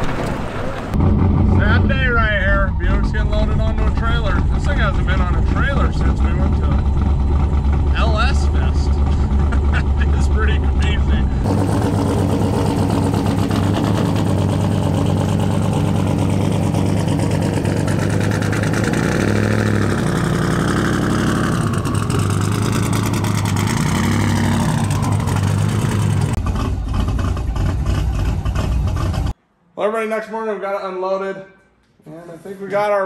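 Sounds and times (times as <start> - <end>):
car engine idling and revving: 0.0 - 29.4.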